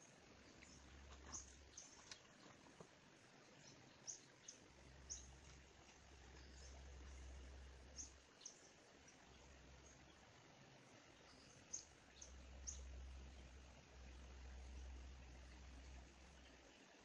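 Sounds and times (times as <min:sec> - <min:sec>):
faint low rumble: 0:00.0 - 0:17.0.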